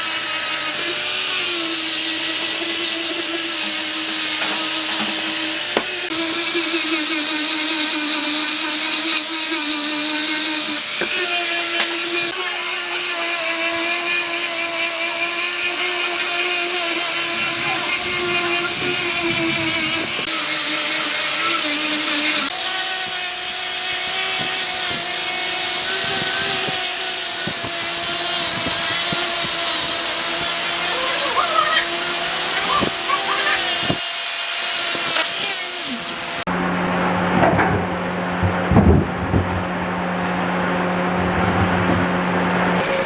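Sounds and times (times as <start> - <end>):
power tool motor whine: 0.0 - 36.6.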